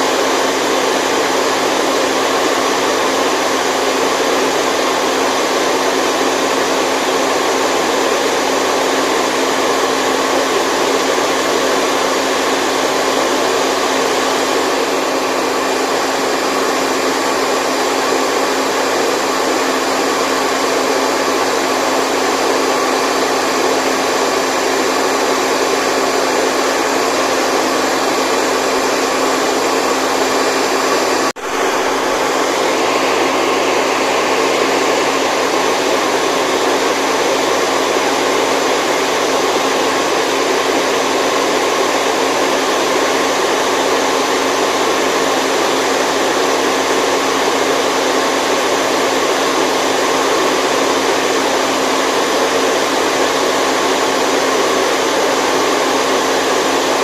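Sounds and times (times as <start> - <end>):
rushing white noise: 0.0 - 57.0.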